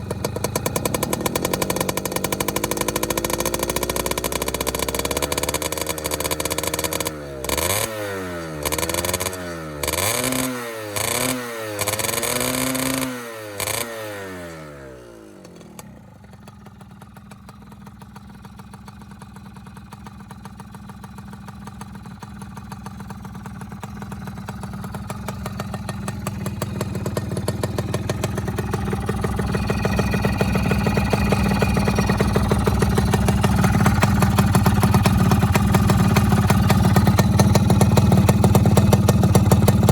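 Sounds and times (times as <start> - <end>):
engine idling: 0.0 - 10.2, 14.7 - 39.9
two-stroke engine revving: 0.0 - 16.8, 22.6 - 39.9.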